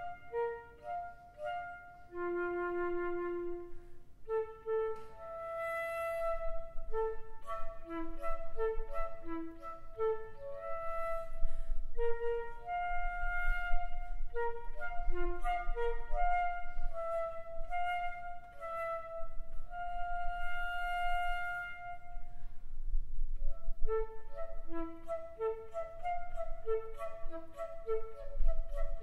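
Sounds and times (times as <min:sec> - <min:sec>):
flute playing quick passage: 0:00.0 - 0:22.5, 0:23.4 - 0:29.0.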